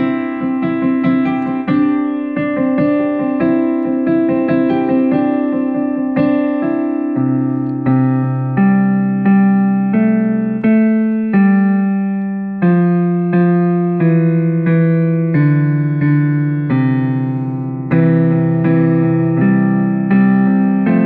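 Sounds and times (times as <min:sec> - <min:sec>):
electric piano chords: 0:00.0 - 0:21.0.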